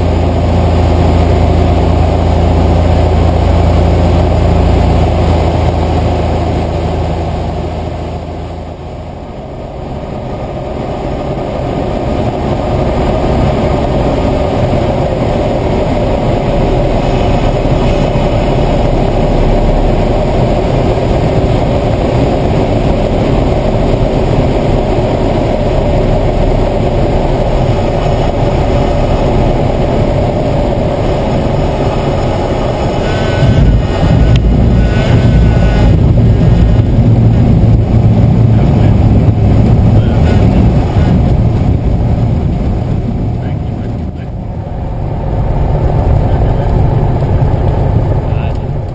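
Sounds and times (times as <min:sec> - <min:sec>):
airplane engine and propeller drone: 0:00.0 - 0:48.9
wind noise: 0:00.0 - 0:48.9.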